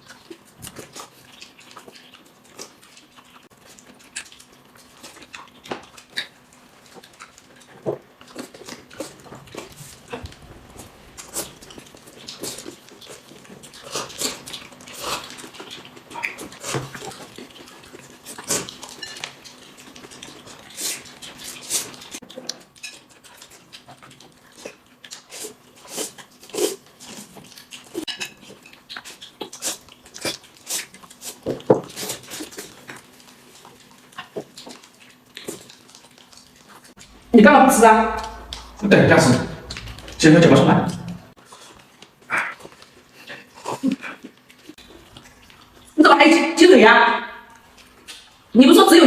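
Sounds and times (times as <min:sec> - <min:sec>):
eating sounds: 0:00.0 - 0:49.0.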